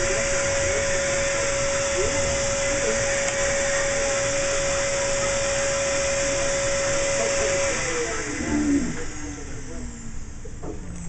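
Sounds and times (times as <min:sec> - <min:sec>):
cast saw motor whine: 0:00.0 - 0:11.0.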